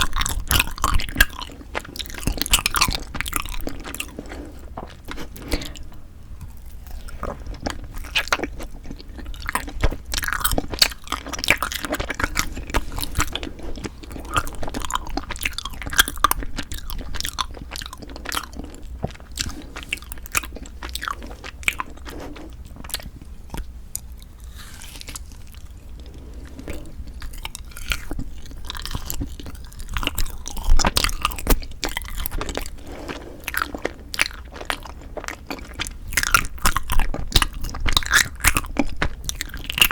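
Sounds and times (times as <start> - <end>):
close chewing and mouth clicks: 0.0 - 39.9.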